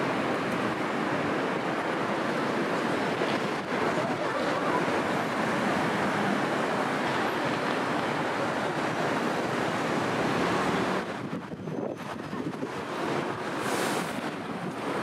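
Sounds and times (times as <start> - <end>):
busy city street noise: 0.0 - 15.0.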